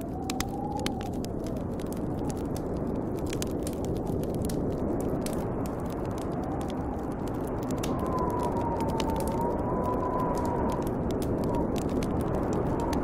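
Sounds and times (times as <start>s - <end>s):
howling storm wind: 0.0s - 13.0s
wood fire crackling: 0.0s - 13.0s.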